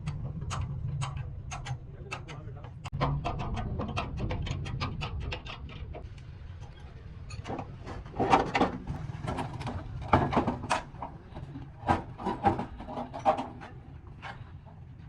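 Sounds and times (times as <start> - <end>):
knocks clanks and scraping: 0.0 - 15.0
low hum: 0.0 - 15.0.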